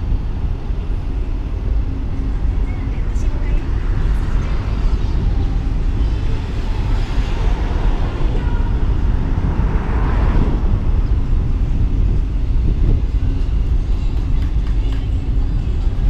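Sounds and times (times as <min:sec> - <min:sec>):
car road and wind noise: 0:00.0 - 0:16.0
passing traffic: 0:00.0 - 0:16.0.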